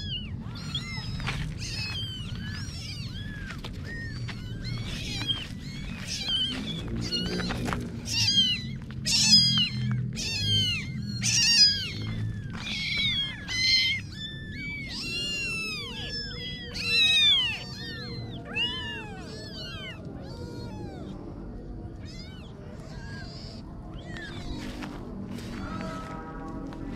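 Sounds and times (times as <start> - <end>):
kittens mewing: 0.0 - 26.9.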